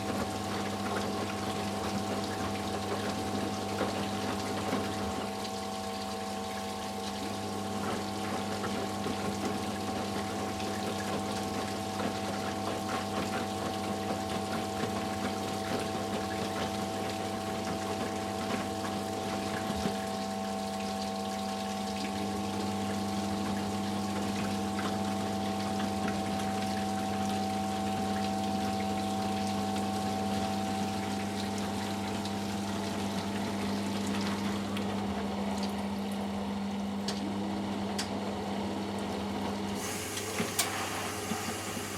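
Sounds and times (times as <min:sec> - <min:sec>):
drain pump humming: 0:00.0 - 0:41.9.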